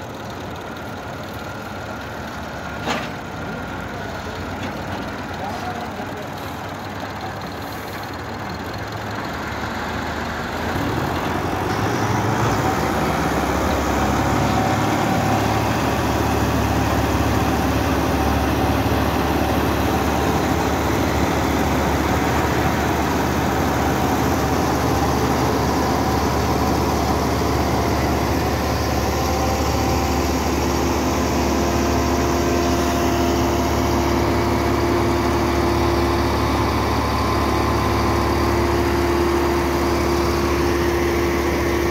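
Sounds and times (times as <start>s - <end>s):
hay baler engine running: 0.0s - 41.9s.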